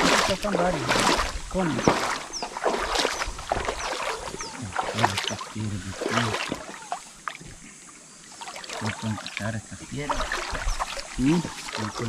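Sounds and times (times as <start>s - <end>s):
voices talking: 0.0s - 2.6s, 3.8s - 12.0s
water splashing in river: 0.0s - 7.6s, 8.2s - 12.0s.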